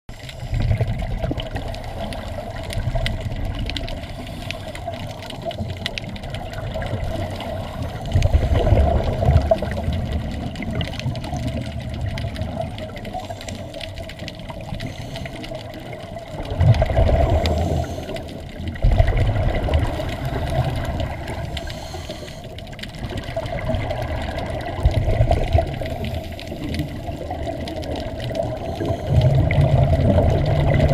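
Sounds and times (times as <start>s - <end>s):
regulator air bubbling: 0.1s - 30.9s
underwater hum: 0.1s - 30.9s.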